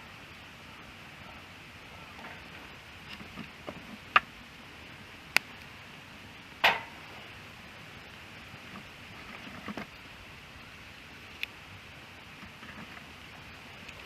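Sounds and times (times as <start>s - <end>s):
soft hiss: 0.0s - 14.0s
wood fire crackling: 0.0s - 14.0s
fire popping: 1.7s - 14.0s.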